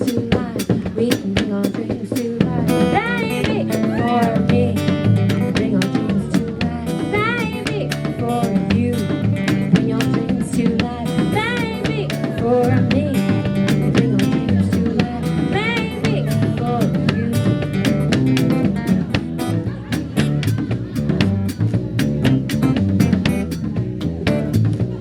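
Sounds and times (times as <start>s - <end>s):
acoustic guitar strummed and plucked: 2.4s - 25.0s.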